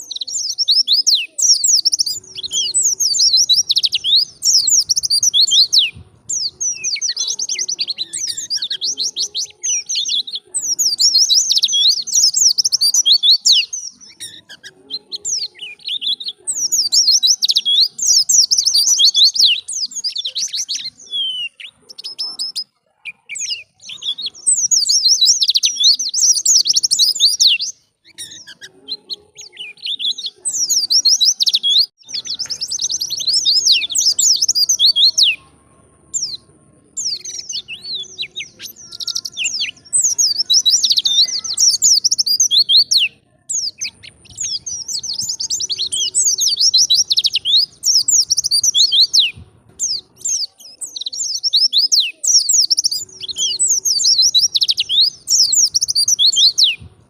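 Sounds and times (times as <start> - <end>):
bird chirping and warbling: 0.0 - 57.0.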